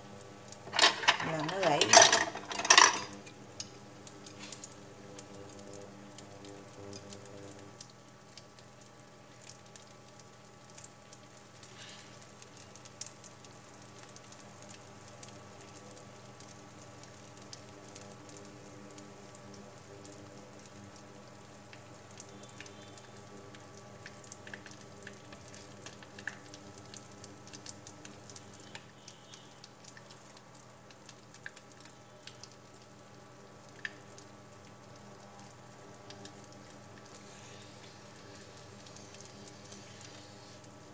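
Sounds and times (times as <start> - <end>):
faint steady hum: 0.0 - 40.9
oil sizzling and crackling: 0.0 - 40.9.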